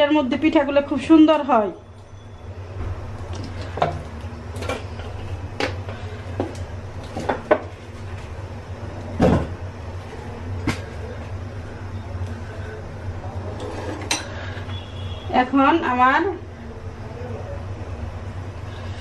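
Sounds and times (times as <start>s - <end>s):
gas stove burner rumble: 0.0s - 19.0s.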